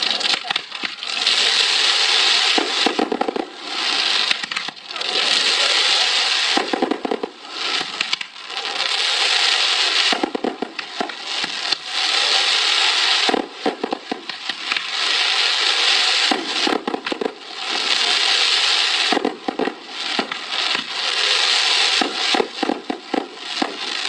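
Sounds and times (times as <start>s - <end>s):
fireworks crackling: 0.0s - 24.0s
fireworks hissing: 0.0s - 24.0s.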